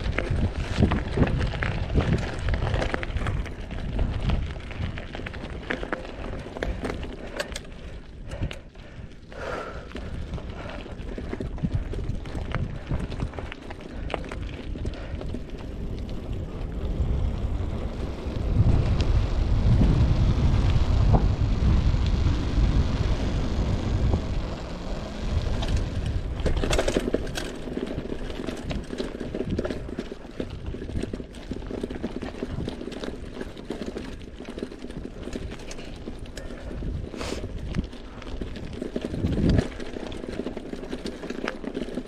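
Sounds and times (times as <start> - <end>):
tyres crunching on gravel: 0.0 - 7.8, 10.0 - 42.0
bike rattling: 0.0 - 42.0
wind rumble on camera: 0.0 - 42.0.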